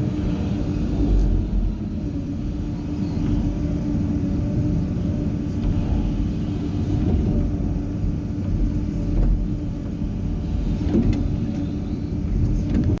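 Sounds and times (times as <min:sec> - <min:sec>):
excavator diesel engine rumble: 0:00.0 - 0:13.0.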